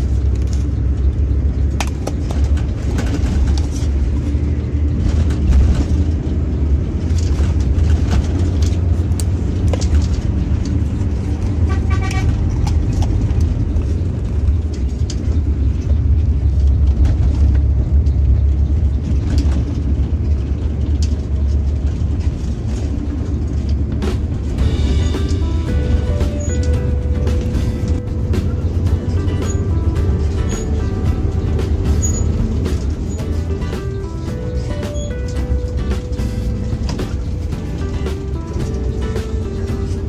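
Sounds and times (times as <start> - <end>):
coach engine and road drone: 0.0 - 40.0.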